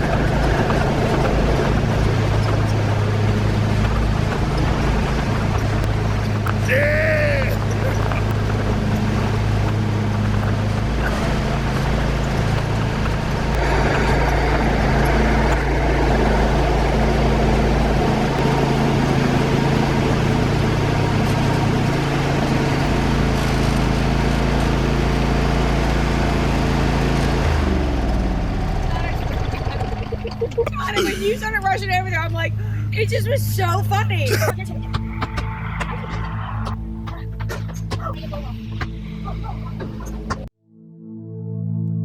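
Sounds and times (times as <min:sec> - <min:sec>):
lawn tractor engine running: 0:00.0 - 0:40.5.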